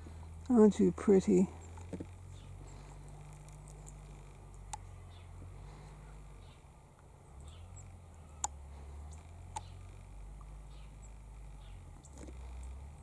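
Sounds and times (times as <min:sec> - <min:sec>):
faint chirp-like sounds: 0:00.0 - 0:13.0.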